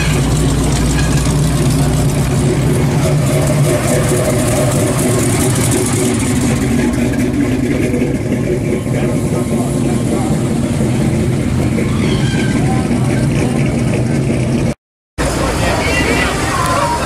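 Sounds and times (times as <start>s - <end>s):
cars driving past loud exhaust: 0.0s - 17.0s.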